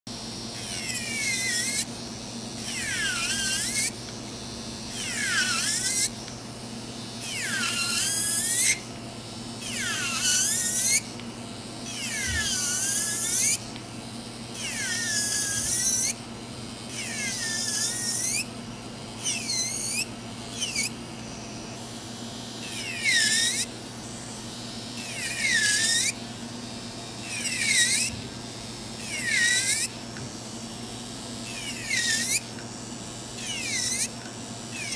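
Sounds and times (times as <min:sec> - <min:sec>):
electric nail drill whining: 0:00.4 - 0:08.9, 0:09.6 - 0:11.2, 0:11.8 - 0:13.8, 0:14.5 - 0:16.2, 0:16.9 - 0:18.5, 0:19.2 - 0:24.2, 0:24.8 - 0:30.3, 0:31.4 - 0:32.6, 0:33.4 - 0:34.9.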